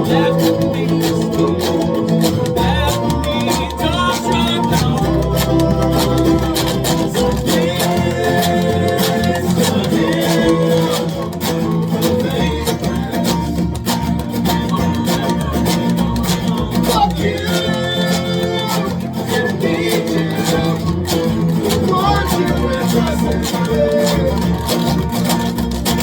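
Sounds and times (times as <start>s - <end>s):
singing: 0.0s - 13.8s, 14.6s - 25.4s
strummed acoustic strings: 0.0s - 26.0s.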